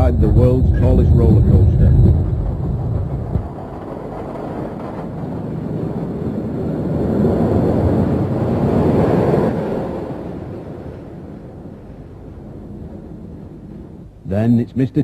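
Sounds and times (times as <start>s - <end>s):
roller coaster rumbling on track: 0.0s - 15.0s.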